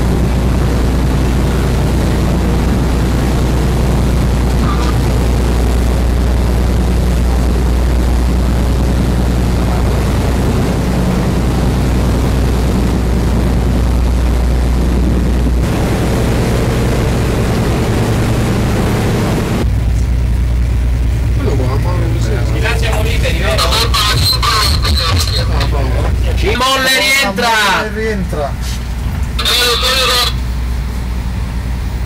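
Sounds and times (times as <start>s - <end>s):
ship engines droning: 0.0s - 32.0s.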